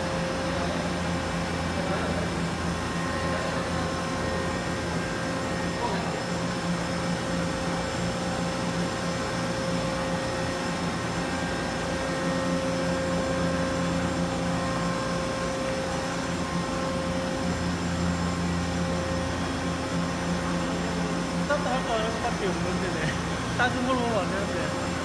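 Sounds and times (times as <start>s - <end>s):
steady machinery hum: 0.0s - 25.0s.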